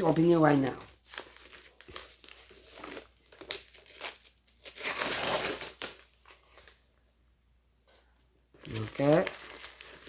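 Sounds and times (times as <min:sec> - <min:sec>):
packaging crinkling and tearing: 0:00.0 - 0:06.8, 0:08.6 - 0:10.0.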